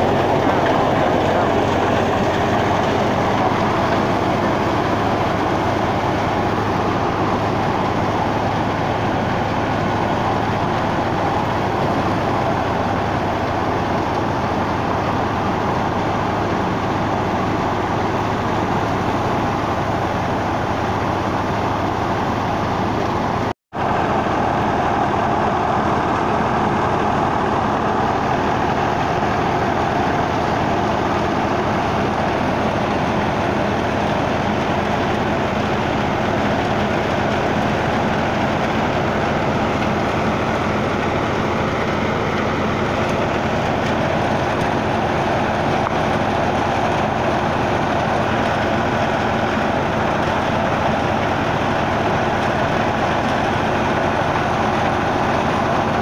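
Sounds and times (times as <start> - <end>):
thresher and tractor engine din: 0.0 - 56.0.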